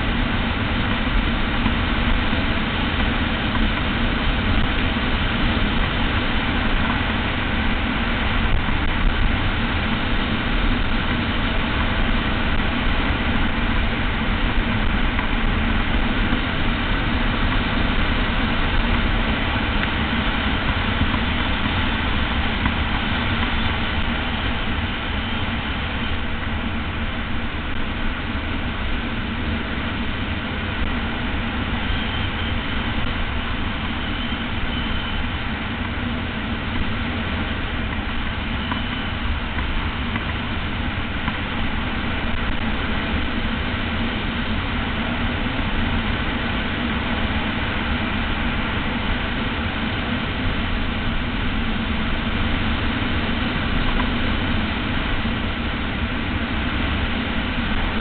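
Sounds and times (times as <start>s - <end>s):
heavy low rumble: 0.0s - 58.0s
wind rushing over microphone: 0.0s - 58.0s.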